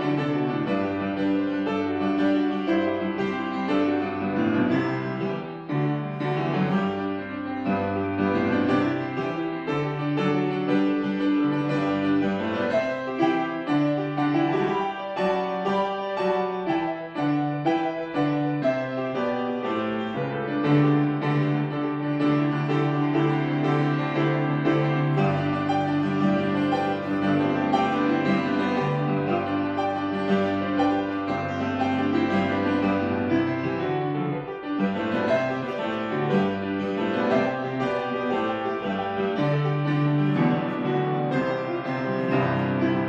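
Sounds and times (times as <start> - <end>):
solo grand piano: 0.0 - 43.0.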